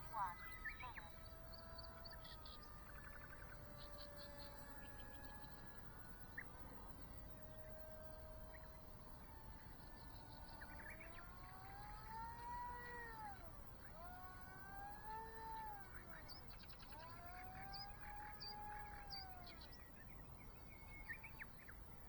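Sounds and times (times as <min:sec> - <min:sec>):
electric model plane motor whine: 0:00.0 - 0:22.0.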